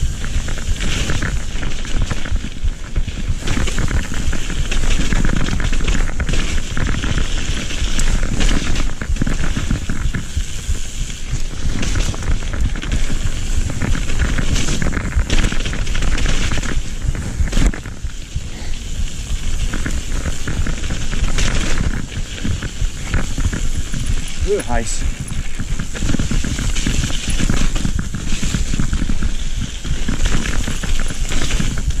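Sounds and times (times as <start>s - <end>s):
bike knocking and rattling: 0.0s - 32.0s
tyres crunching over dirt: 0.0s - 32.0s
wind on microphone: 0.0s - 32.0s.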